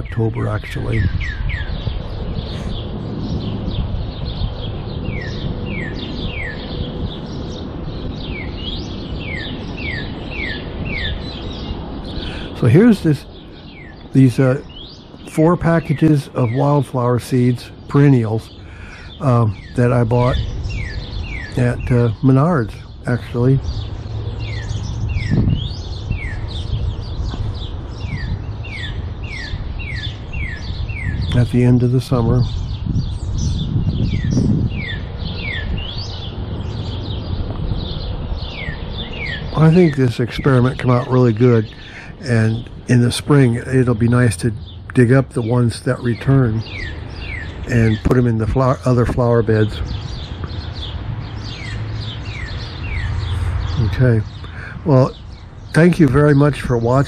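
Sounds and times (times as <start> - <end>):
songbirds chirping: 0.0 - 57.0
steady low rumble: 0.0 - 57.0.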